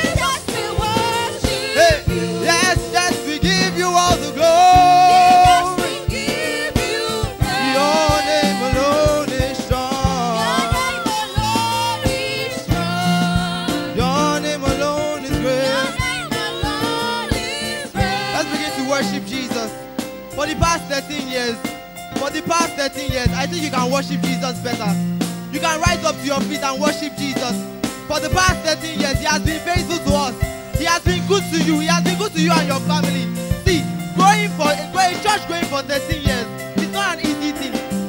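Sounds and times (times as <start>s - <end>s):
bass notes: 0.0s - 38.0s
drum beat: 0.0s - 38.0s
voices singing gospel song: 0.0s - 38.0s.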